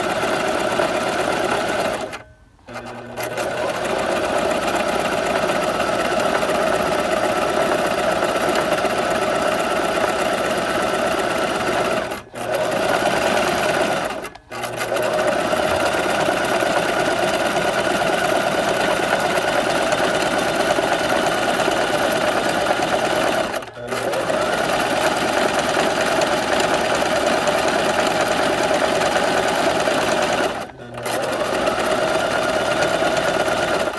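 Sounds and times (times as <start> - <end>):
electric sewing machine running: 0.0 - 33.9.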